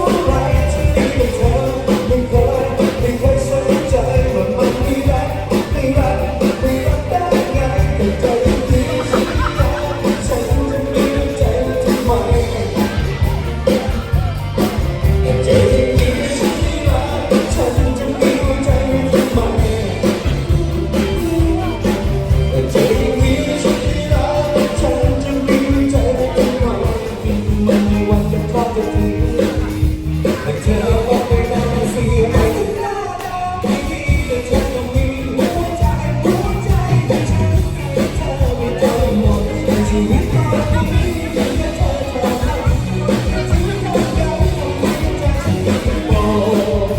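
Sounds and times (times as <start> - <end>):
upbeat song with singer: 0.0 - 46.9.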